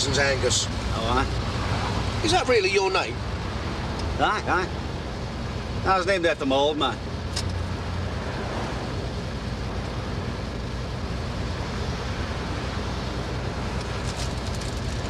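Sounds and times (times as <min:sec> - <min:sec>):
lorry engine hum: 0:00.0 - 0:15.0
road noise rushing: 0:00.0 - 0:15.0.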